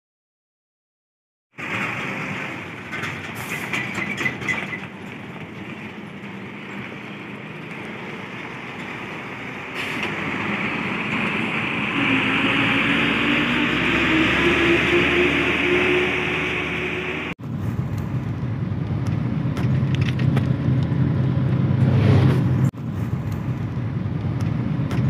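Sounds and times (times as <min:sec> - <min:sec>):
truck engine and tyres passing: 0:01.6 - 0:25.0.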